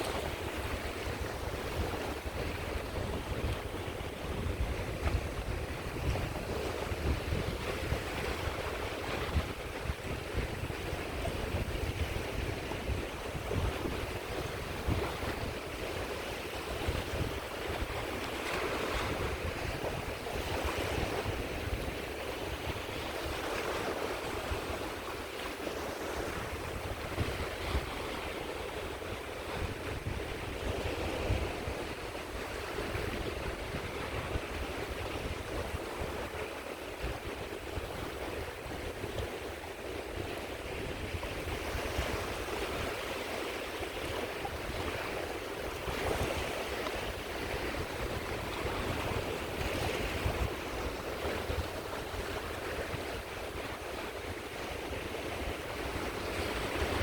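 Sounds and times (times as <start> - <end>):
sea waves breaking on shore: 0.0 - 57.0
wind buffeting microphone: 0.0 - 57.0.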